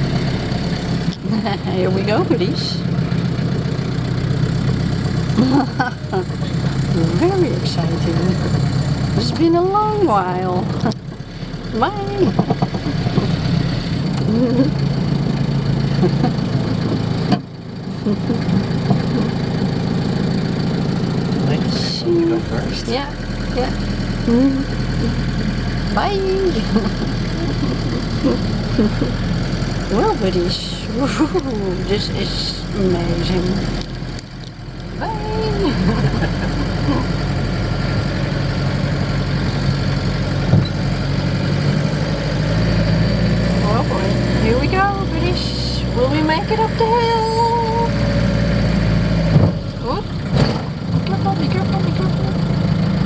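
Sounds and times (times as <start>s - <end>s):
van engine running: 0.0s - 53.0s.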